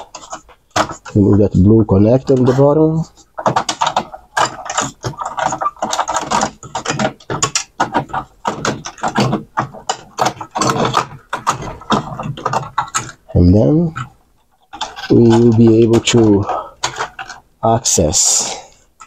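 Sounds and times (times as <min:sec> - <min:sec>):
plastic parts clicking and rattling: 0:00.0 - 0:19.0.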